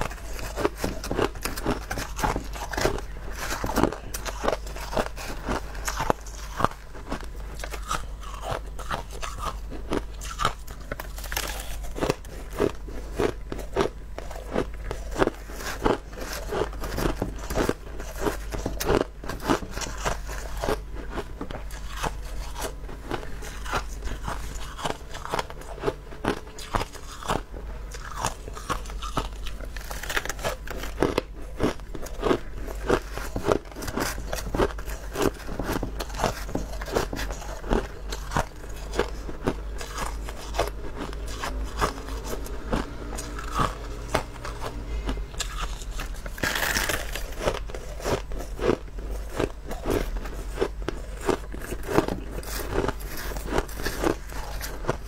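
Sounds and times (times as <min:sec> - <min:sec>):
ice crunching between teeth: 0:00.0 - 0:55.0
steady low hum: 0:00.0 - 0:55.0.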